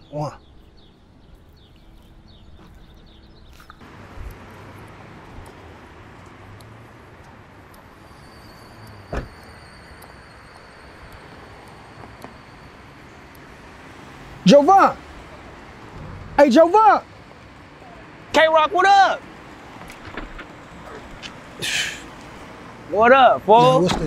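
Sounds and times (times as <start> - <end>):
birds chirping: 0.0 - 24.0
passing cars hum: 1.0 - 24.0.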